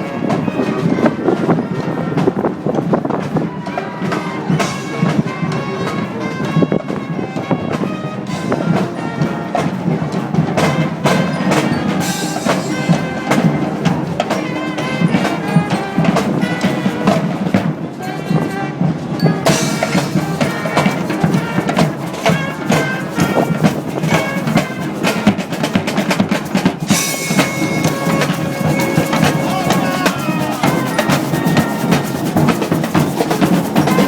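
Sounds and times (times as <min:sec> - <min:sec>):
brass band horns: 0:00.0 - 0:34.0
drums and percussion: 0:00.0 - 0:34.0.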